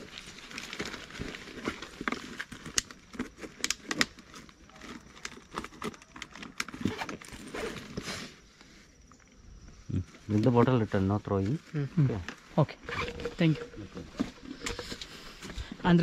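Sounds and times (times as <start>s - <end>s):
backpack and bottle handled: 0.0s - 9.2s, 12.2s - 15.8s.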